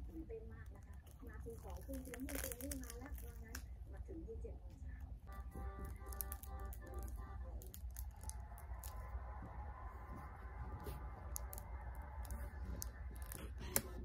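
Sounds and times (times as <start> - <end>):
plastic wrap crinkling: 0.0 - 3.9, 5.2 - 14.0.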